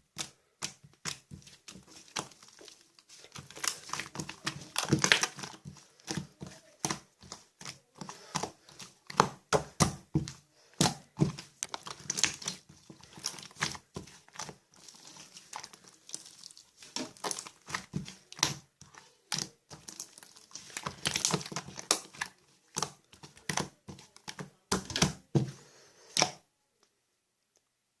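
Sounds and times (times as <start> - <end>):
slime popping and crackling: 0.1 - 25.3.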